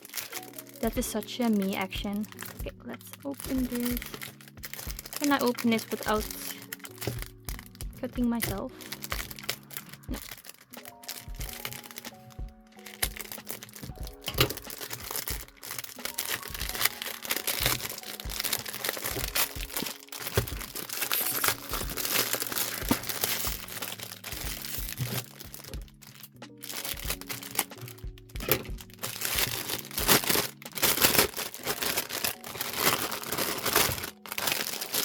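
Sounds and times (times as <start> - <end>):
background music: 0.0 - 35.0
plastic wrapping crackling: 0.0 - 35.0.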